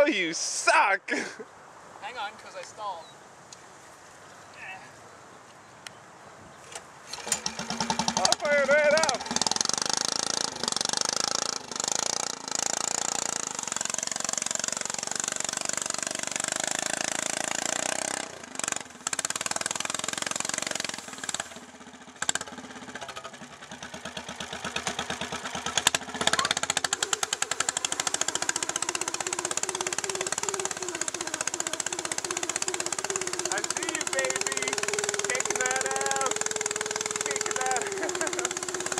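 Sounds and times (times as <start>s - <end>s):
lawn tractor engine running: 7.1s - 38.9s.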